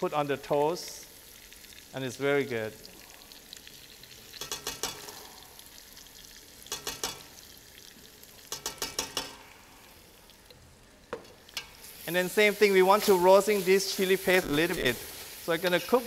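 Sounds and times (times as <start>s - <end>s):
sizzling in oil: 0.0s - 16.0s.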